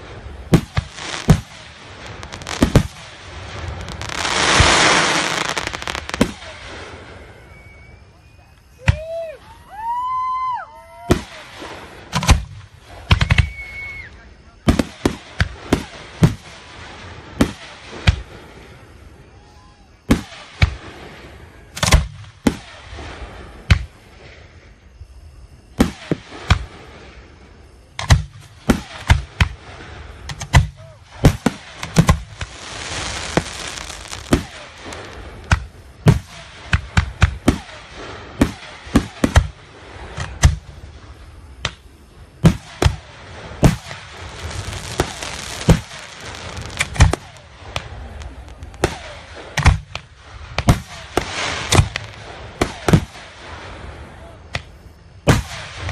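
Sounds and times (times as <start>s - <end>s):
fireworks bursting with sharp bangs: 0.0s - 55.9s
steady fireworks hiss: 0.0s - 55.9s.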